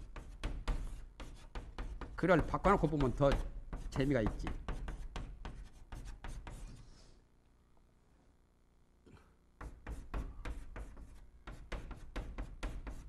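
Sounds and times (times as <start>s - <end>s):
chalk tapping and scraping: 0.0s - 7.1s, 9.6s - 13.0s.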